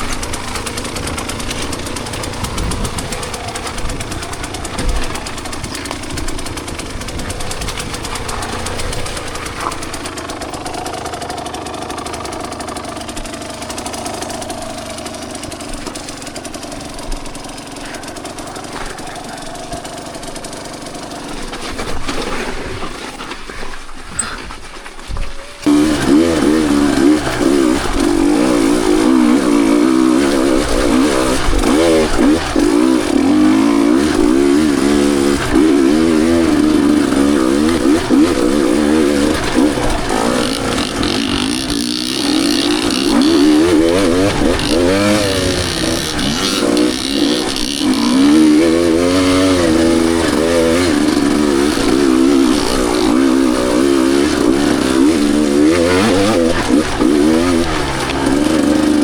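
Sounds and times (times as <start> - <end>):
dirt bike engine revving: 0.0 - 24.4, 25.4 - 59.0.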